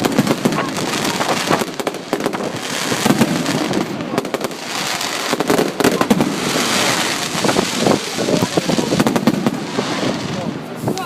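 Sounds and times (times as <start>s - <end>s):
fireworks popping and crackling: 0.0s - 11.0s
hissing crackle: 0.0s - 11.0s.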